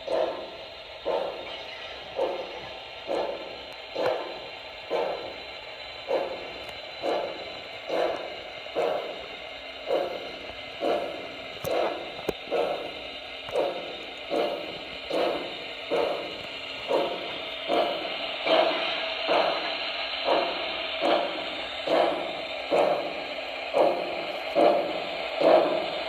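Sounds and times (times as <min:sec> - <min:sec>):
model locomotive steam chuffs: 0:00.0 - 0:26.0.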